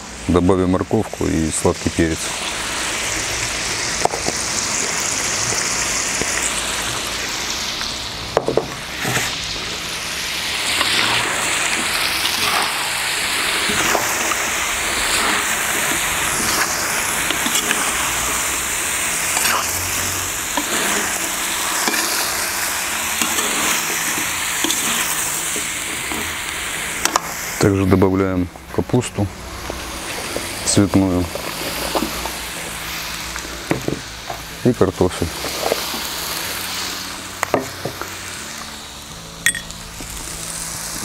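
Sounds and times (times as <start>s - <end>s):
food sizzling in hot oil: 0.0s - 41.0s.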